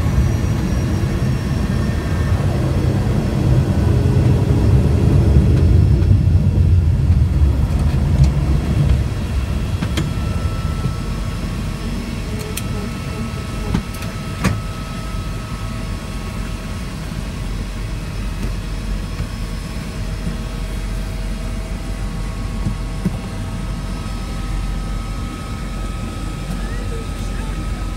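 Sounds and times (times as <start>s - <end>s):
plane engine and propeller: 0.0s - 27.9s.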